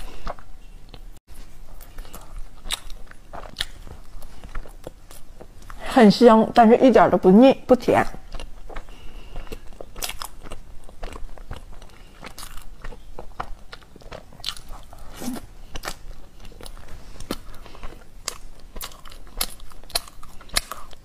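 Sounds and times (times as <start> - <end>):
chewing with mouth clicks: 0.0 - 5.8, 8.0 - 21.0.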